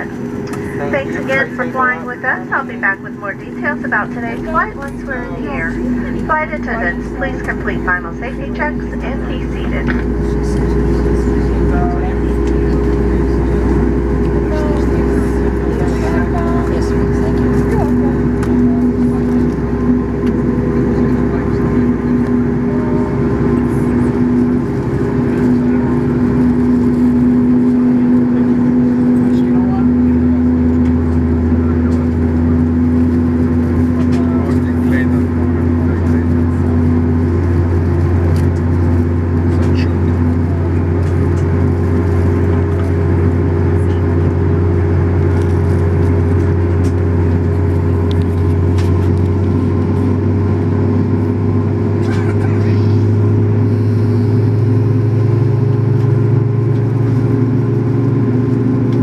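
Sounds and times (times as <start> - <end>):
jet engine hum inside cabin: 0.0 - 59.0.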